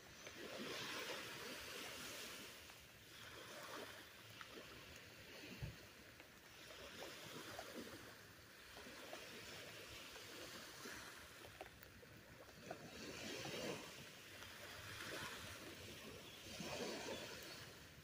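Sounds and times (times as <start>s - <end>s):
surf washing: 0.0s - 18.0s.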